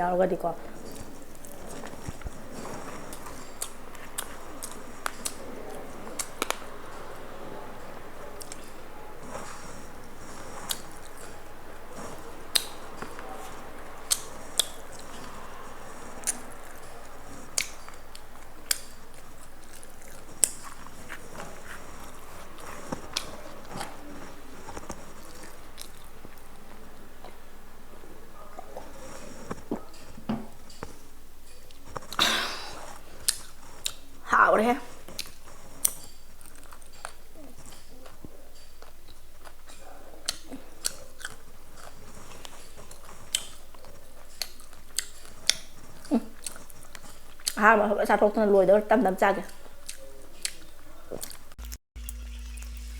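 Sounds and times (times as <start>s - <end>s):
faint steady hiss: 0.0s - 52.9s
person crunching and chewing: 0.7s - 47.6s, 49.3s - 52.9s.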